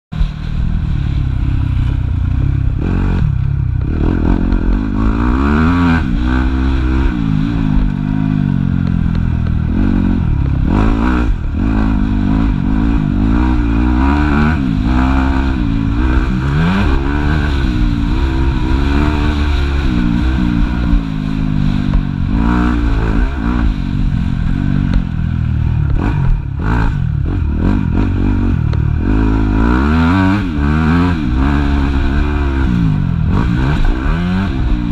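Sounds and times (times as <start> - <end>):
motocross bike engine revving: 0.5 - 34.9.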